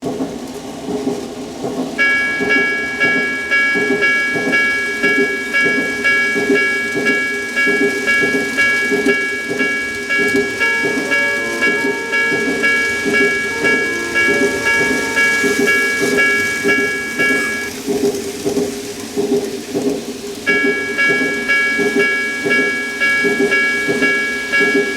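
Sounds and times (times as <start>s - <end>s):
model train clattering on track: 0.0s - 24.9s
level crossing warning chime: 2.0s - 18.2s, 20.5s - 24.9s.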